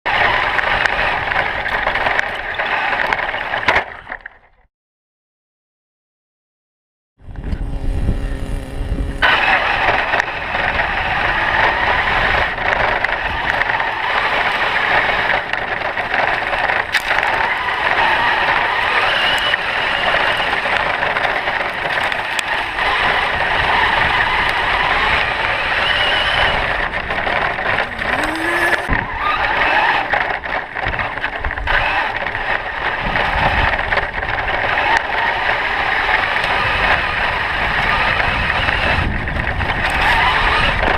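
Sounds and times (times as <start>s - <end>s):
rc trucks driving: 0.1s - 4.6s, 7.2s - 40.9s
motor rising whines: 7.2s - 40.9s.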